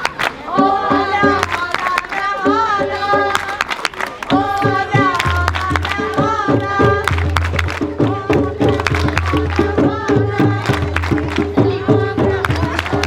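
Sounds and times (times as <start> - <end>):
group call-and-response singing: 0.0 - 13.0
hand drums beating: 0.5 - 3.7, 4.3 - 13.0.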